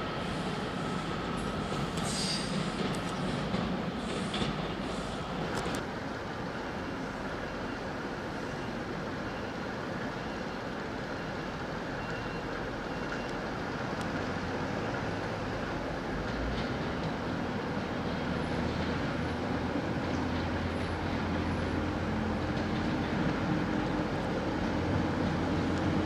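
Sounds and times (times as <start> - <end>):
diesel train engines rumbling: 0.0 - 26.0.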